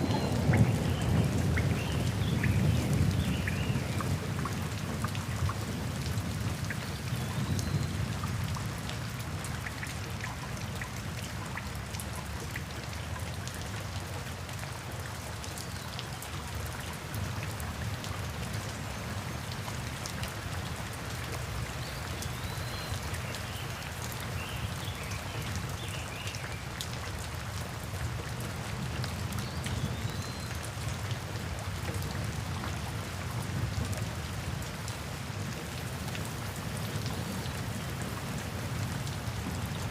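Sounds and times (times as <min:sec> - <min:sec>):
heavy rainfall rumble: 0:00.0 - 0:39.9
raindrops ticking on a surface: 0:00.0 - 0:39.9.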